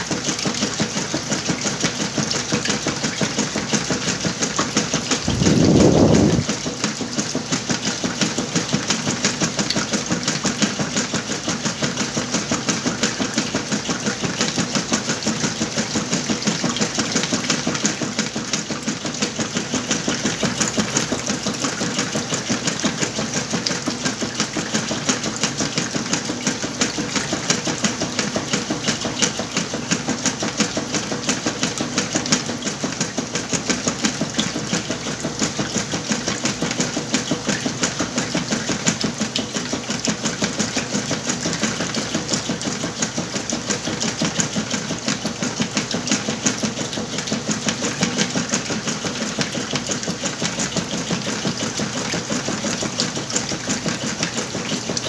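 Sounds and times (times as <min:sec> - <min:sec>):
wash water sloshing: 0:00.0 - 0:55.0
washing machine agitating: 0:00.0 - 0:55.0.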